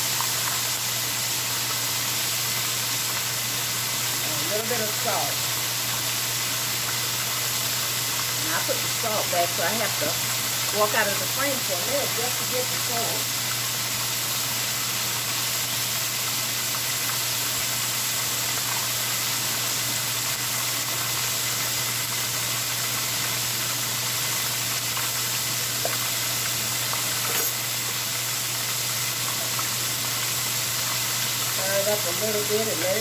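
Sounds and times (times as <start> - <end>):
chicken frying in hot oil: 0.0 - 33.0.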